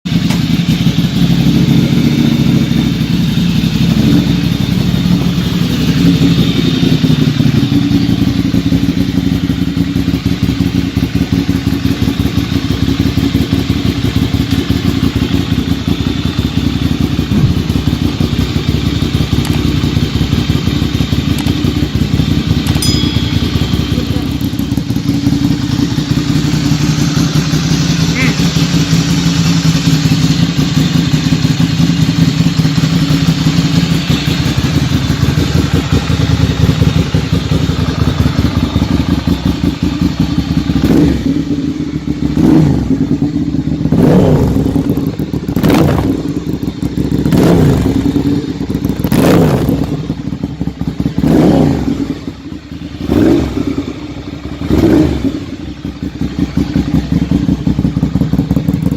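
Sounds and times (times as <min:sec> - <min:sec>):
motorcycle engine idling: 0:00.0 - 0:58.9
motorcycle engine revving: 0:00.1 - 0:58.9.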